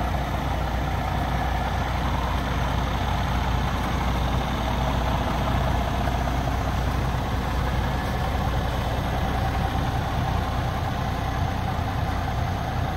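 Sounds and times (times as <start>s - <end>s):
diesel truck engine idling: 0.0s - 12.9s.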